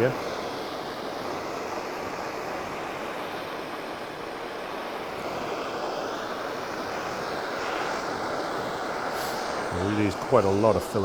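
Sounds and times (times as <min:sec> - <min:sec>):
gas blowtorch burning: 0:00.0 - 0:11.0.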